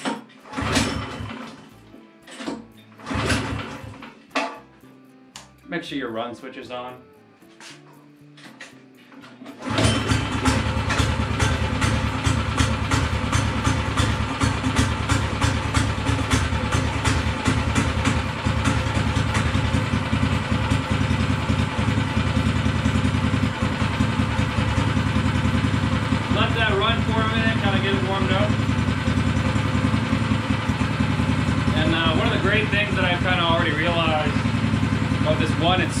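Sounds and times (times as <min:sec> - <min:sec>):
small engine running: 0:00.4 - 0:01.7, 0:03.0 - 0:04.1, 0:09.5 - 0:36.0.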